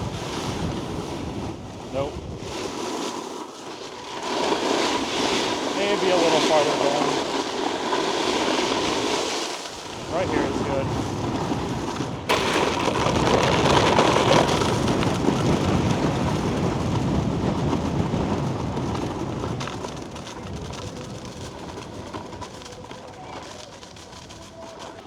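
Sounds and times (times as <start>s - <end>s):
snowboard scraping over icy snow: 0.0s - 25.0s.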